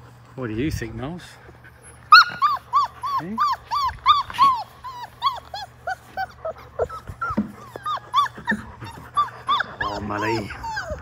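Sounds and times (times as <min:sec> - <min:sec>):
puppy whimpering: 0:01.5 - 0:11.0.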